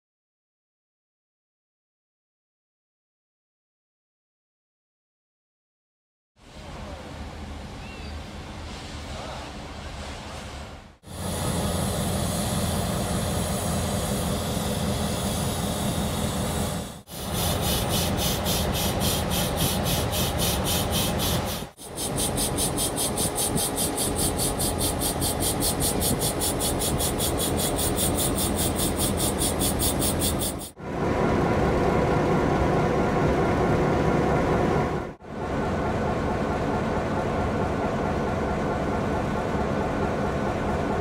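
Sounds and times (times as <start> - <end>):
diesel locomotives passing: 6.5 - 41.0.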